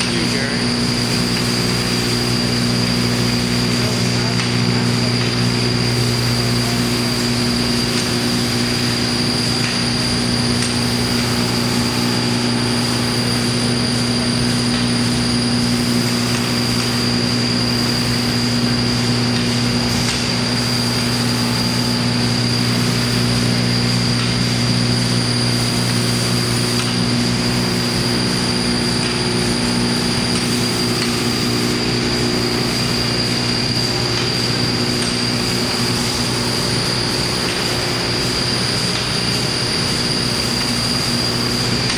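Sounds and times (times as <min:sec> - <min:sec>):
vibratory drive hum: 0:00.0 - 0:41.9.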